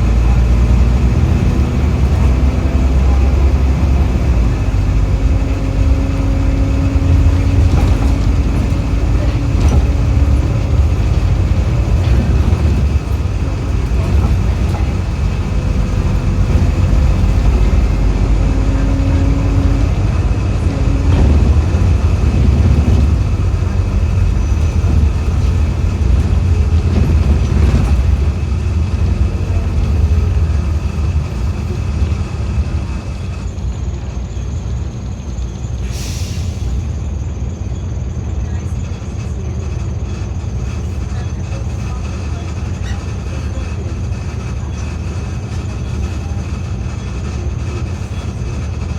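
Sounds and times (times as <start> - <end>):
bus engine and road rumble: 0.0 - 48.9.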